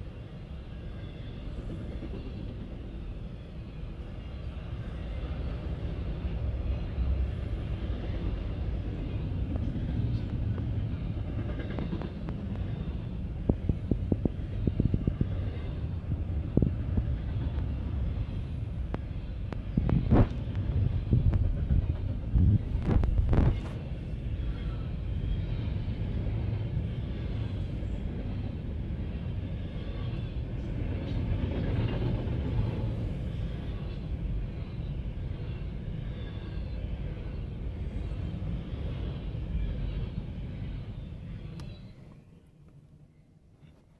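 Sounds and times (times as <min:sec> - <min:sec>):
freight train rumbling: 0:00.0 - 0:43.9.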